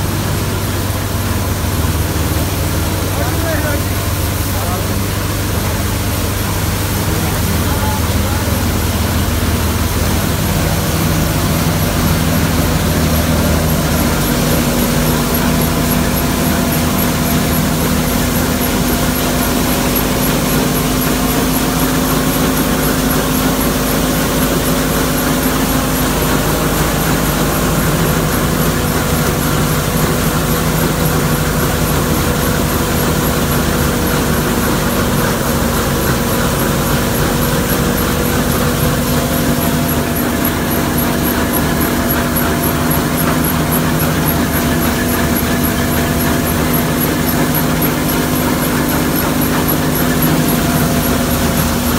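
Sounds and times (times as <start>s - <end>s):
thresher machine drone: 0.0s - 51.9s.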